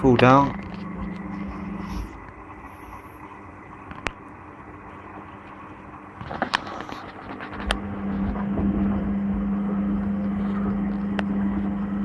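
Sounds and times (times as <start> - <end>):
washing machine motor humming: 0.0 - 12.0.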